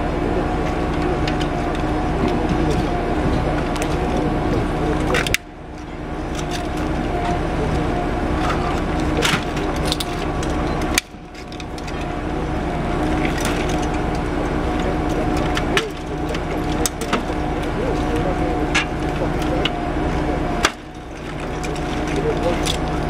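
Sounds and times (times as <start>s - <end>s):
engine idling: 0.0s - 23.0s
car parts cracking and crunching: 0.3s - 23.0s.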